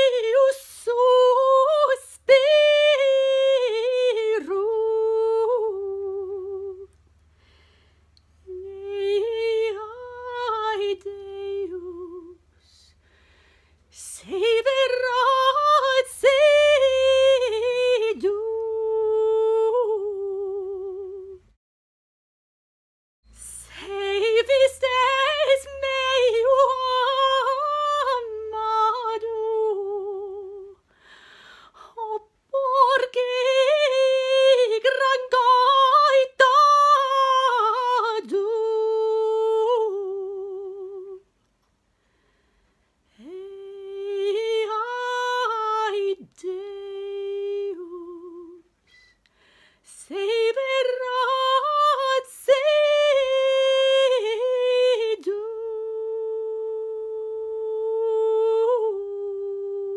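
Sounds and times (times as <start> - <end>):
woman singing unaccompanied: 0.0 - 7.0, 8.4 - 13.0, 13.9 - 21.5, 23.4 - 30.9, 31.8 - 41.3, 43.1 - 48.8, 49.8 - 59.9.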